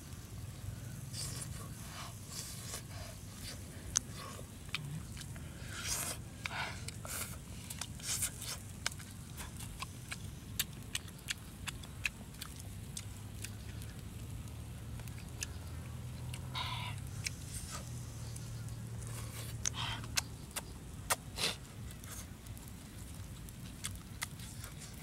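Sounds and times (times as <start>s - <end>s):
low steady hum: 0.0s - 25.0s
chewing and mouth clicks: 1.1s - 25.0s.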